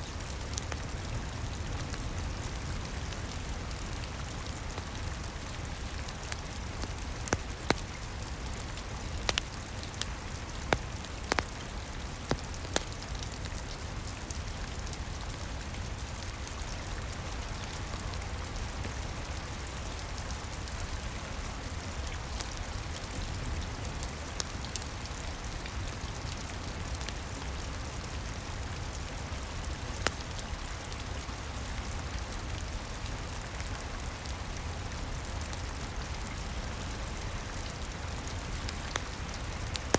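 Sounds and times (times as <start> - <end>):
rain on a roof: 0.0 - 39.9
wood fire crackling and popping: 0.0 - 39.9.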